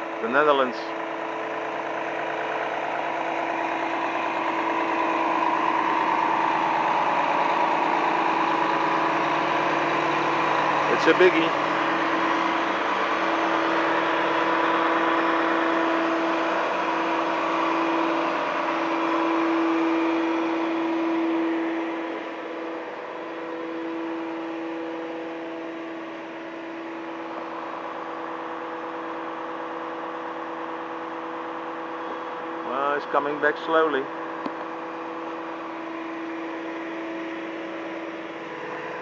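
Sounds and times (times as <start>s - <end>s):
diesel engine running: 0.0s - 39.0s
hydraulic whine: 1.4s - 39.0s.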